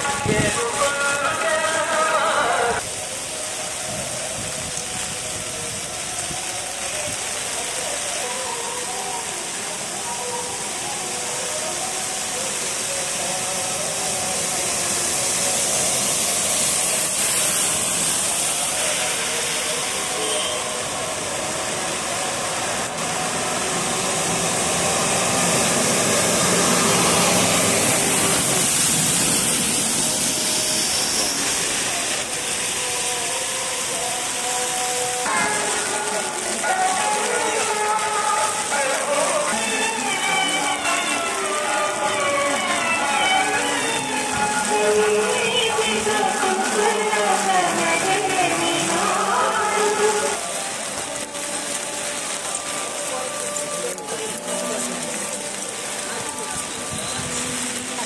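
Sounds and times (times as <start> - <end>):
heavy rain falling: 0.0 - 58.0
water rushing across road: 0.0 - 58.0.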